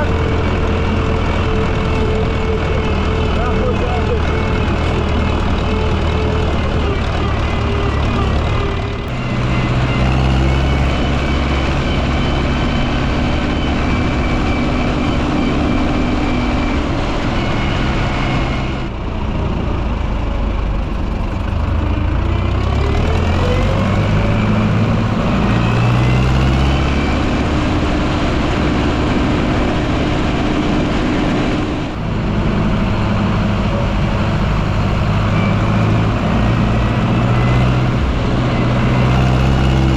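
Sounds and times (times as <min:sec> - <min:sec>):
tractor engines running loudly: 0:00.0 - 0:39.9.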